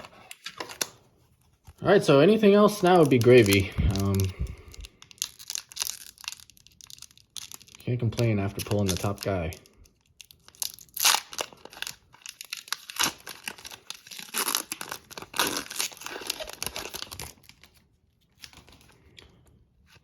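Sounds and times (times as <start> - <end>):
plastic wrapper tearing and crinkling: 0.0 - 20.0.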